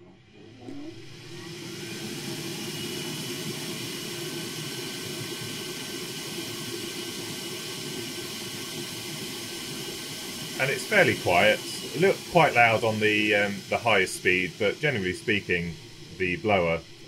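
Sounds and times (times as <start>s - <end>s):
faint steady whine: 0.0s - 17.0s
hot air blower rushing: 0.9s - 17.0s.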